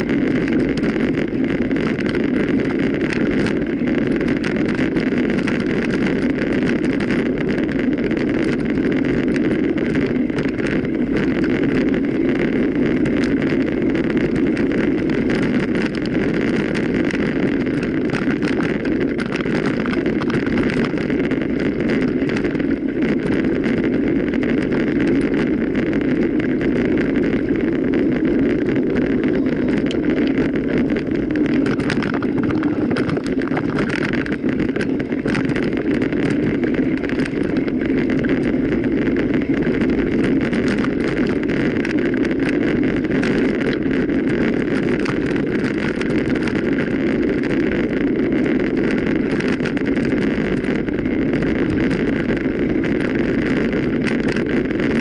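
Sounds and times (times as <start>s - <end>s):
bike tyres rolling over ground: 0.0s - 55.0s
wind on microphone: 0.0s - 55.0s.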